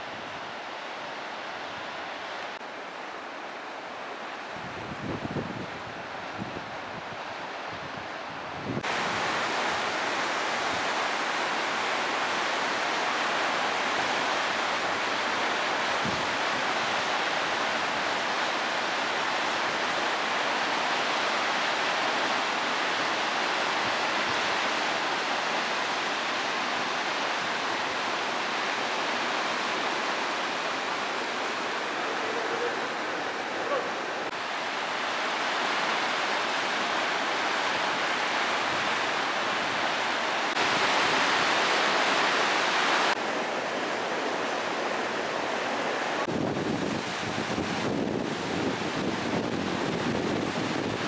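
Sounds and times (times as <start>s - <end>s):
river rapids rushing over boulders: 0.0s - 51.0s.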